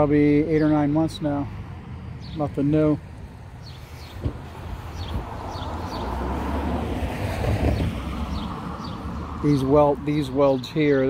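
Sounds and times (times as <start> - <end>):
road vehicle passing: 0.0 - 11.0.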